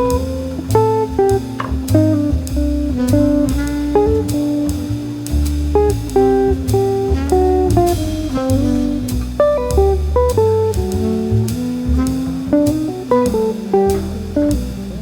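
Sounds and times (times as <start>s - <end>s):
bass line: 0.0s - 15.0s
light beat: 0.0s - 15.0s
plucked guitar melody: 0.0s - 15.0s.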